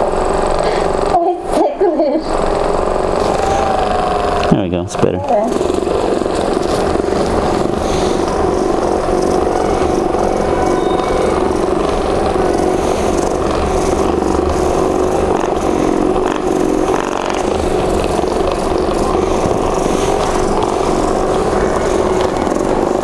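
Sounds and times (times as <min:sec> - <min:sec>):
massage gun buzzing and pulsing: 0:00.0 - 0:23.0.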